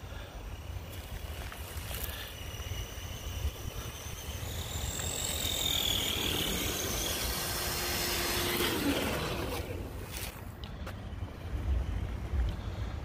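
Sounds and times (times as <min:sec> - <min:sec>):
toy truck motor whining: 0:00.0 - 0:12.9.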